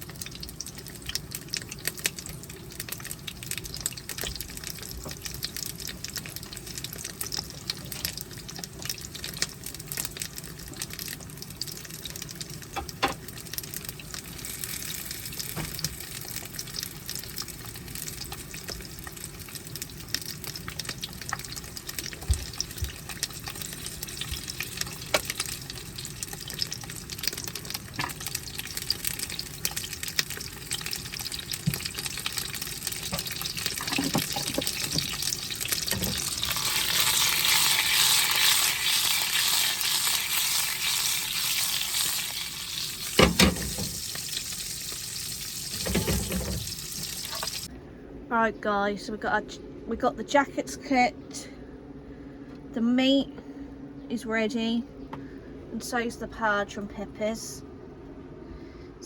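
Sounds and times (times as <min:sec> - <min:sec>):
food sizzling in oil: 0:00.0 - 0:47.7.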